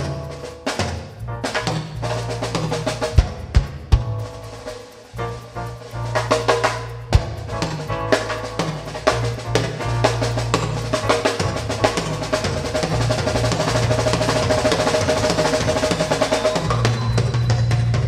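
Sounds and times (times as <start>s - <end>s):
bass line: 0.0s - 18.0s
live band playing: 0.0s - 18.0s
rapid snare drum strokes: 0.0s - 18.0s.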